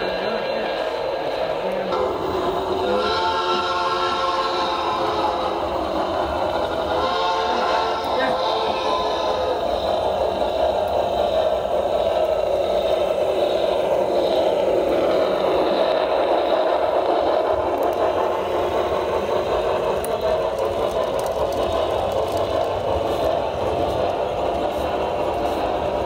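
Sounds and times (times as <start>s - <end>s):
model train wheels rattling on rails: 0.0s - 26.0s.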